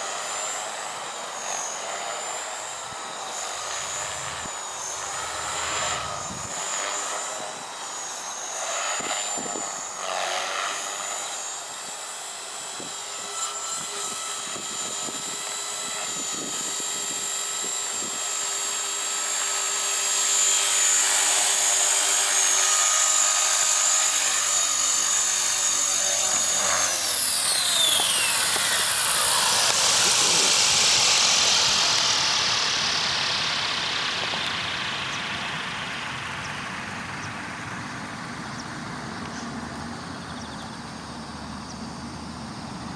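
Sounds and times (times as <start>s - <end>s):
rc helicopter rotors whining: 0.0s - 42.9s.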